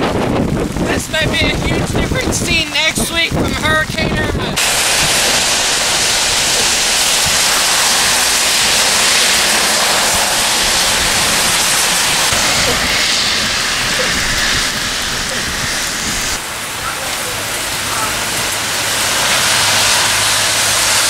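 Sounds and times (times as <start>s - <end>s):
heavy rain on wet road: 0.0s - 21.0s.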